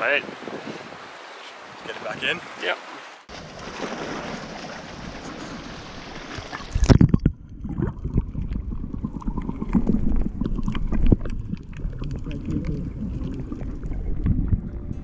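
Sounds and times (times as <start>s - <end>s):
sea noise on shore: 0.0s - 14.9s
wind: 0.0s - 15.0s
underwater sloshing and bubbling: 2.8s - 15.0s.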